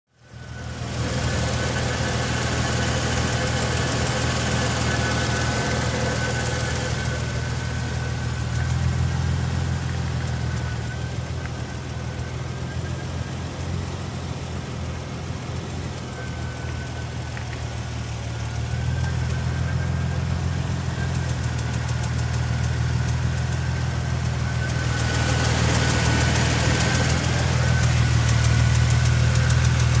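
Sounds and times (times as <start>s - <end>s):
engine running with ticking: 0.1s - 30.0s.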